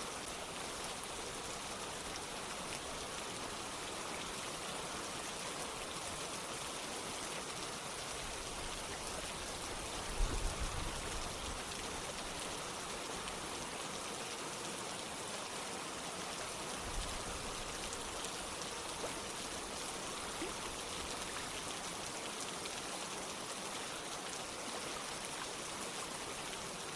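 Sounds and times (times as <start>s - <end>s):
running water: 0.0s - 26.9s
steady rain: 0.0s - 26.9s.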